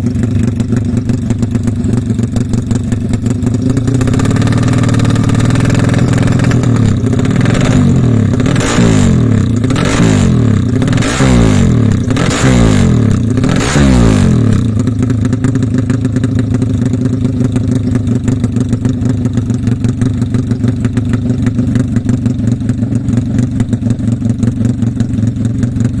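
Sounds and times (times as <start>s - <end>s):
motorcycle engine revving: 0.0s - 26.0s
motorcycle idling: 0.0s - 26.0s.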